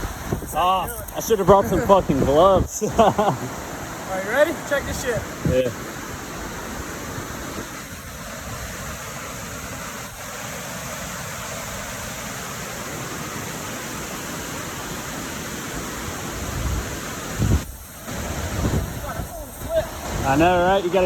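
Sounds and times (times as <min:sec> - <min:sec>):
creek running under ice: 0:00.0 - 0:21.0
waterfall rushing: 0:00.0 - 0:21.0.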